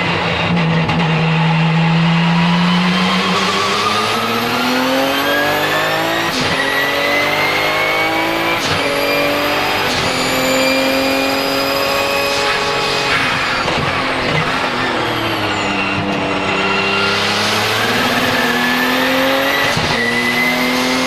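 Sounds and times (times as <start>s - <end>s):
race car engine accelerating: 0.0s - 21.0s
gear upshifts: 2.4s - 21.0s
high turbo whistle: 2.7s - 21.0s.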